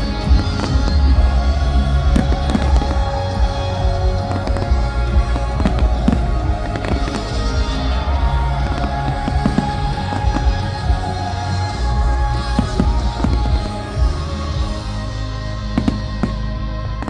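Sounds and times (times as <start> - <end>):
fireworks bangs and crackles: 0.0 - 17.0
loud music with heavy bass: 0.0 - 17.0.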